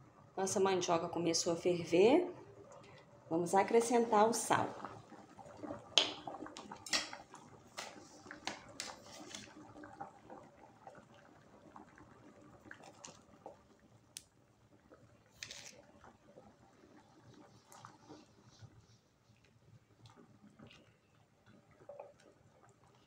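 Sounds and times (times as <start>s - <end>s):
water boiling and bubbling: 0.0s - 23.0s.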